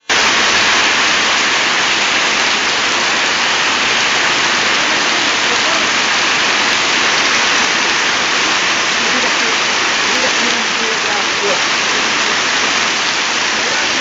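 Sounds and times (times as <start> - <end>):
hail and rain pelting down: 0.0 - 14.0.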